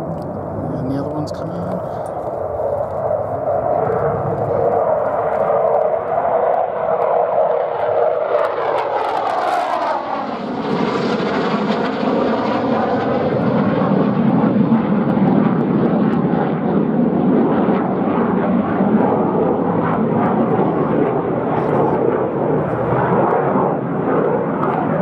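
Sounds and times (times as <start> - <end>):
jet engines flying past: 0.0 - 25.0.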